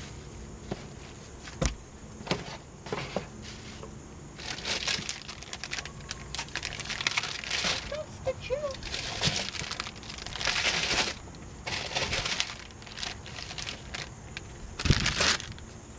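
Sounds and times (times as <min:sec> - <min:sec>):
plastic bags and cardboard crinkling: 0:02.3 - 0:15.9.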